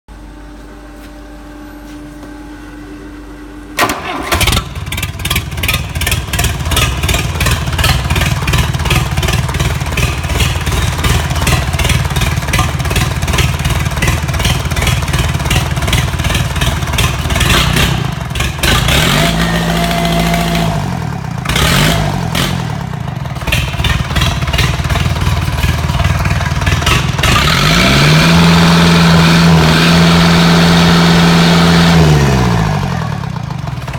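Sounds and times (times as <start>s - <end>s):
diesel engine running and revving: 3.8s - 33.9s.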